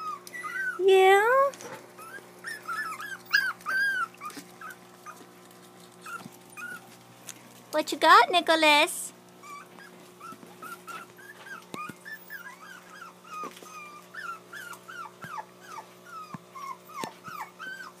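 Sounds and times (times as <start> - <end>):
puppies whimpering: 0.0 - 7.1, 9.4 - 18.0.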